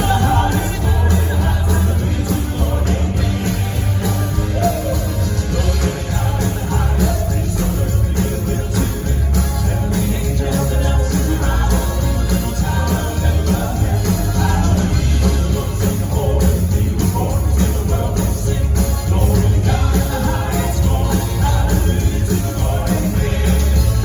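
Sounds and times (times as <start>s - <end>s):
live band gospel music: 0.0s - 24.0s
sleigh bells jingling: 0.0s - 24.0s.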